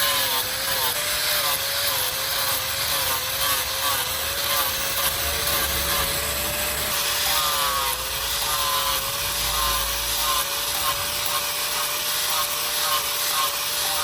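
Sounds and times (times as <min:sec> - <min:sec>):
power tool rubbing: 0:00.0 - 0:14.0.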